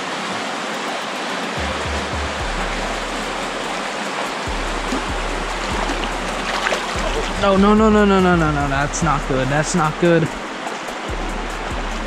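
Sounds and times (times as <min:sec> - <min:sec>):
creek water rushing: 0:00.0 - 0:12.0
instrumental background music: 0:00.2 - 0:12.0.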